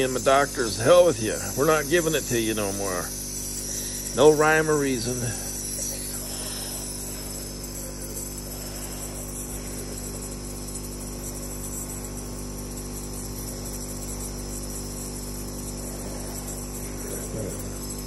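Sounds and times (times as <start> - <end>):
air compressor buzzing hum: 0.0 - 18.0.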